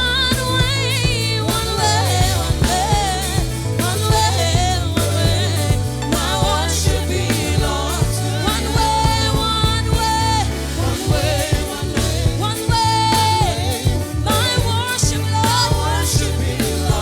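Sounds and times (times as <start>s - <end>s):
band with bass and drums: 0.0s - 17.0s.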